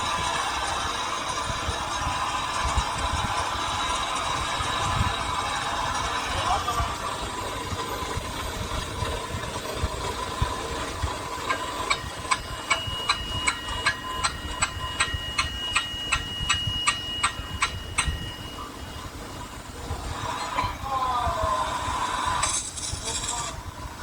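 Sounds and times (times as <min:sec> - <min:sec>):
ringing tone: 0:00.0 - 0:21.1
workshop machine hum: 0:00.0 - 0:24.0.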